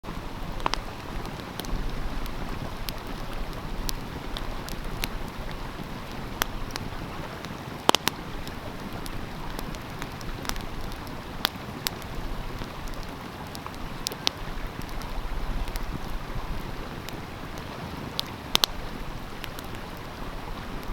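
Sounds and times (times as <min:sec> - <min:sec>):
stream water rushing: 0:00.0 - 0:20.9
wood fire crackling and popping: 0:00.0 - 0:20.9.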